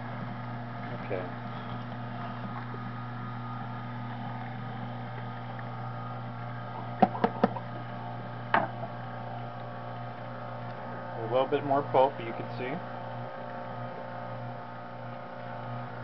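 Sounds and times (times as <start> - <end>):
juicer humming: 0.0 - 16.0.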